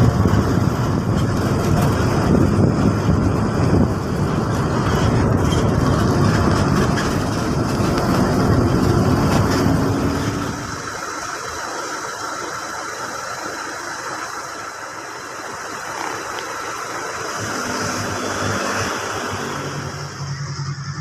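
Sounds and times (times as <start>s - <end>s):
motorbike engine running: 0.0s - 21.0s
wind and road noise: 0.0s - 21.0s.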